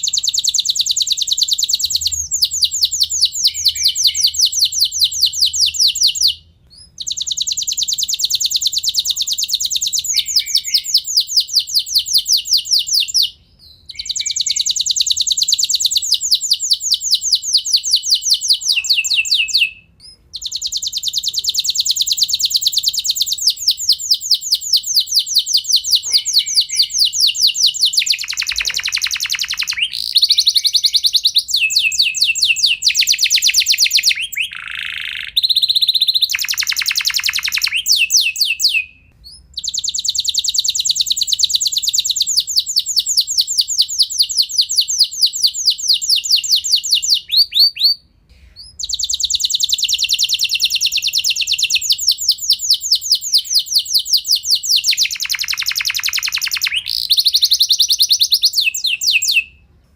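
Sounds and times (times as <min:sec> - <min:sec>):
canary singing trills: 0:00.0 - 0:59.6.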